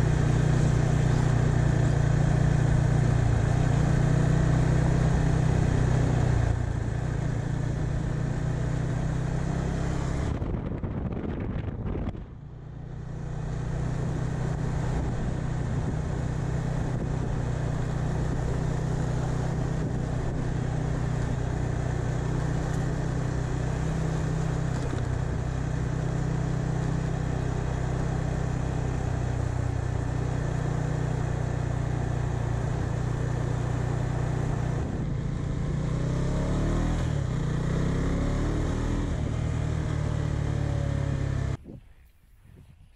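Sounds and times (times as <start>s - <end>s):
motorcycle engine running: 0.0s - 41.6s.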